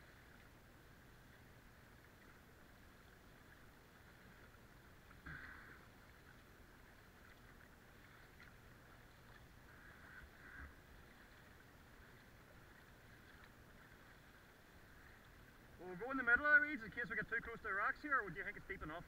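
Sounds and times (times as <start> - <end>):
water hissing at the bow: 0.0 - 15.8
paddle strokes splashing water: 0.0 - 19.0.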